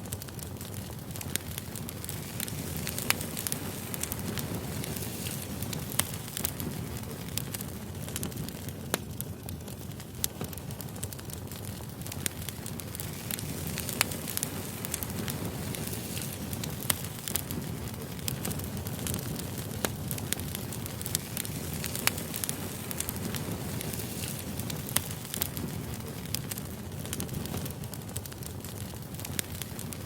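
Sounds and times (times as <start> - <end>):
campfire flame rumble: 0.0 - 30.0
wood crackling and popping: 0.0 - 30.0.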